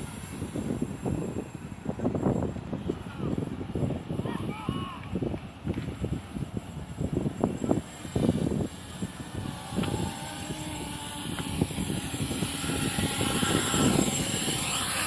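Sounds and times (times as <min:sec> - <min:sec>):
quadcopter motors whirring: 0:00.0 - 0:15.0.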